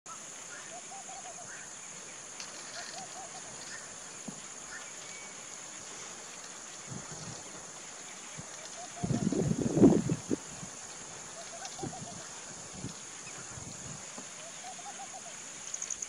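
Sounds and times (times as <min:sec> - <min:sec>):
high-pitched insect drone: 0:00.1 - 0:16.0.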